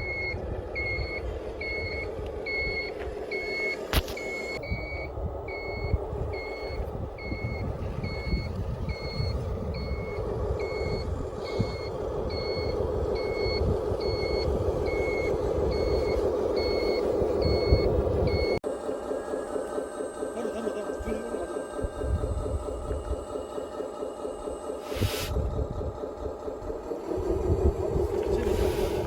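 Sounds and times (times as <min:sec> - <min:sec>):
reversing alarm beeping: 0:00.0 - 0:25.0
toy truck motor drone: 0:00.0 - 0:29.0.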